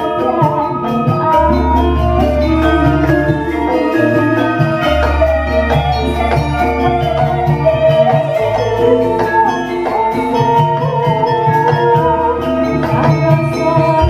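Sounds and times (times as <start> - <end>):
metallophone notes ringing: 0.0 - 14.0
woman singing: 0.0 - 14.0.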